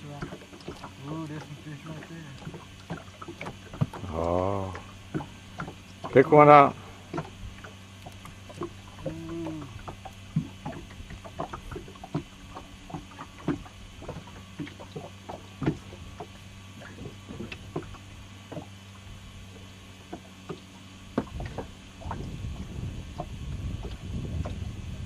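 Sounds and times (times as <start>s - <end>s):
low rumbling: 0.0s - 20.1s, 20.7s - 25.0s
steady low hum: 0.0s - 25.0s.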